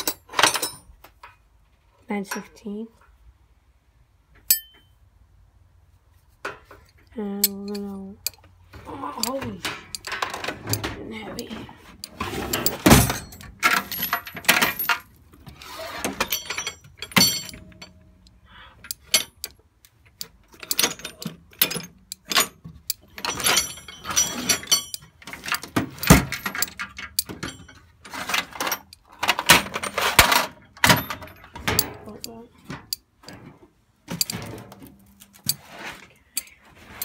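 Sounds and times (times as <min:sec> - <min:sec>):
metal tools clanking: 0:00.0 - 0:01.4, 0:06.5 - 0:18.2, 0:18.8 - 0:37.0.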